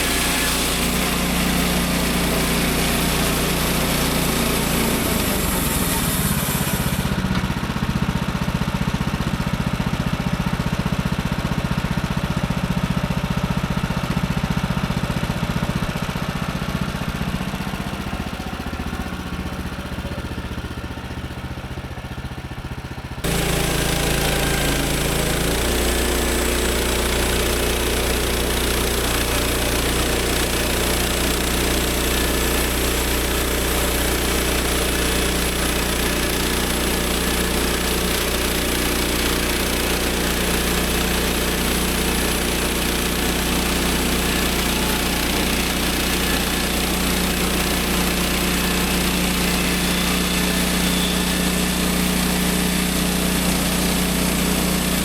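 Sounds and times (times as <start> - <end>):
sawmill engine cutting log: 0.0 - 55.0.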